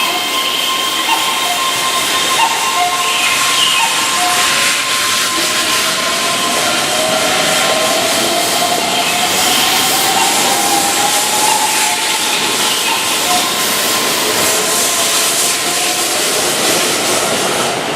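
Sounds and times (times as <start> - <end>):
electric train running by: 0.0 - 17.9
wheel and rail noise: 0.0 - 17.9.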